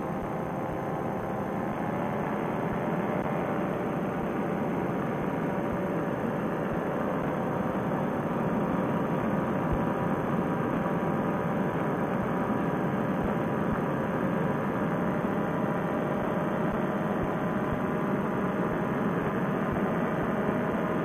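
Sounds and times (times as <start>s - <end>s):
paramotor engine running: 0.0s - 21.0s.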